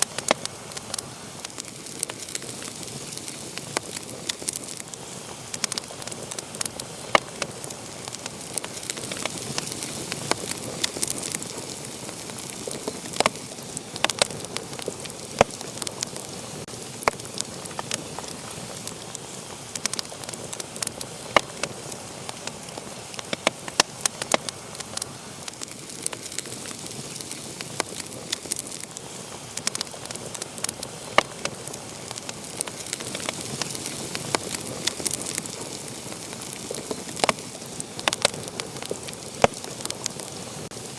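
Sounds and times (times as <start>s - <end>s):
fire popping and snapping: 0.0s - 40.9s
wood fire crackling: 0.0s - 40.9s.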